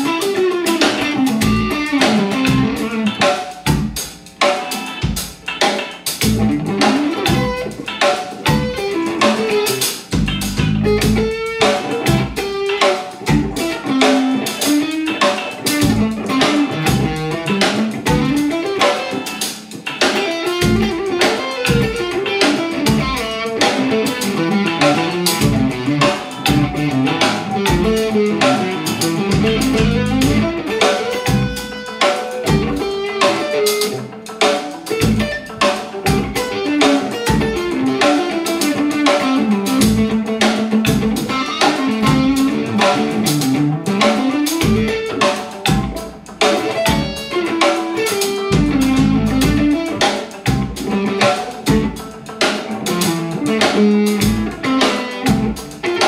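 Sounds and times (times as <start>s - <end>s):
drum backing: 0.0s - 56.0s
electric guitar lead lines: 0.0s - 56.0s.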